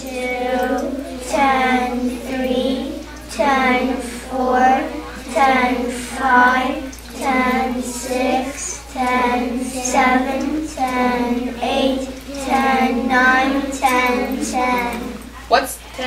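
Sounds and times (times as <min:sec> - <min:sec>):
children and woman chanting: 0:00.0 - 0:16.0.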